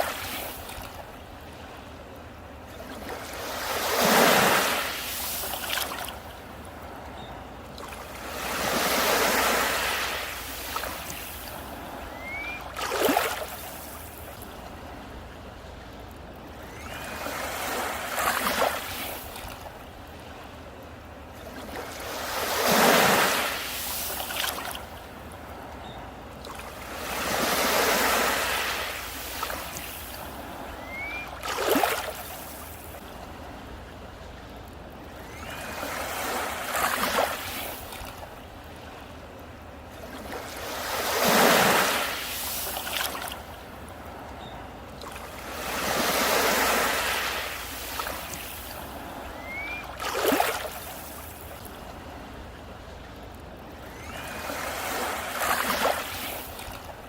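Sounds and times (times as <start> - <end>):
sea waves washing on a beach: 0.0 - 57.0.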